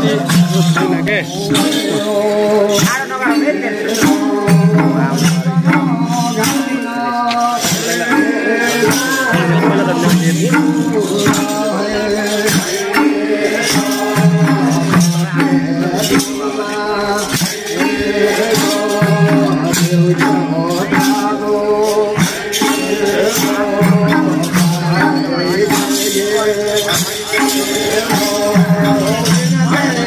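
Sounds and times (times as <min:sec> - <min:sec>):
person singing: 0:00.0 - 0:30.0
sharp percussion strokes: 0:00.0 - 0:30.0.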